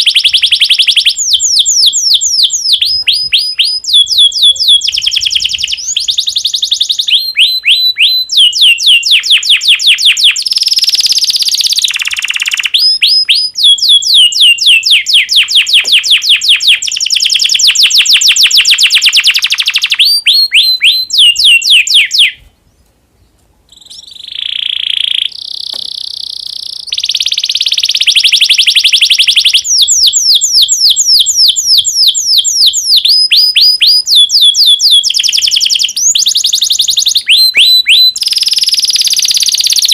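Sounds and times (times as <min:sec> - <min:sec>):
canary singing trills: 0:00.0 - 0:22.5, 0:23.7 - 0:39.9.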